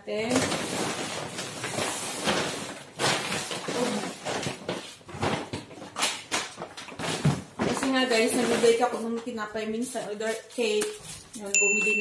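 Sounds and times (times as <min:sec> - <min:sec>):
grocery bags rustling: 0:00.0 - 0:12.0.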